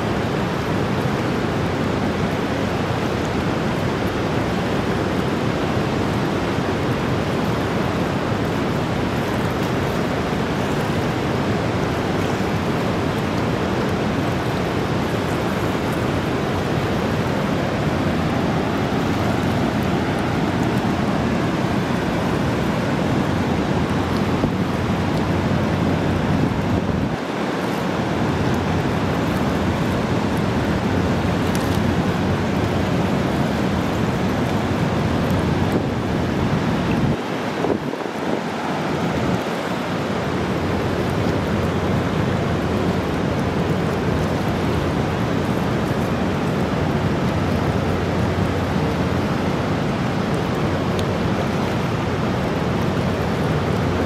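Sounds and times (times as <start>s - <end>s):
rapids rushing: 0.0s - 54.0s.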